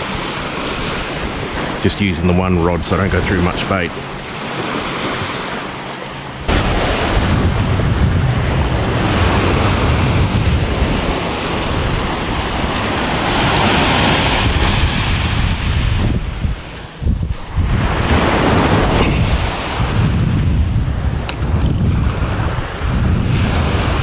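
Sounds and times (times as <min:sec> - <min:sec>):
small waves breaking on sand: 0:00.0 - 0:24.0
wind buffeting microphone: 0:00.0 - 0:24.0.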